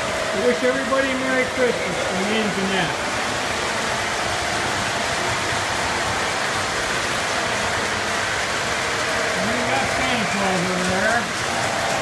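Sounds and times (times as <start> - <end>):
model trains whirring on metal track: 0.0 - 12.0.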